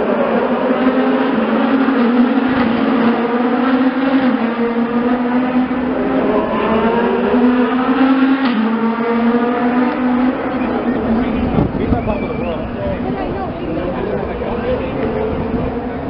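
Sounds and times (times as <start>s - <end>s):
race cars passing: 0.0s - 16.0s.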